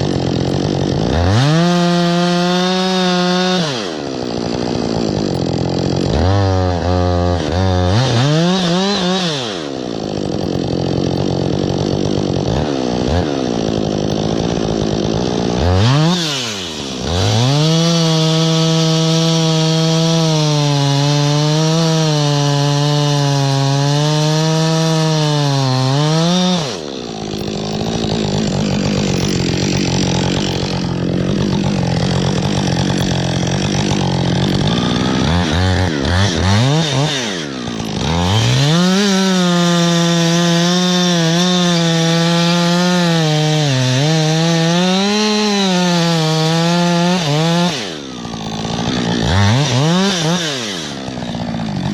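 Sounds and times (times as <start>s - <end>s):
chainsaw engine revving: 0.0s - 51.9s.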